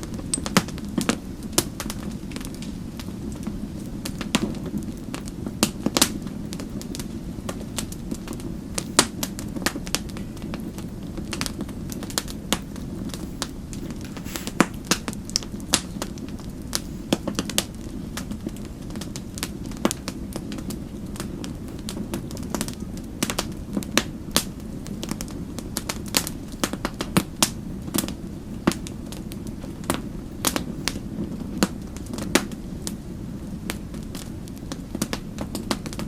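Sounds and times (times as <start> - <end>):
low rush of flames: 0.0 - 36.0
wood fire crackling: 0.0 - 36.0.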